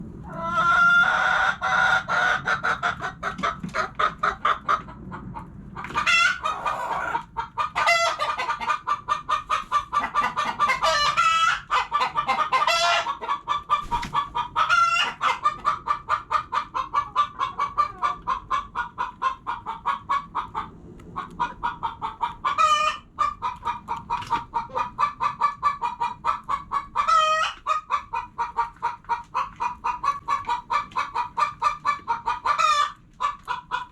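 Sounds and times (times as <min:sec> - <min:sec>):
hens clucking: 0:00.1 - 0:33.9.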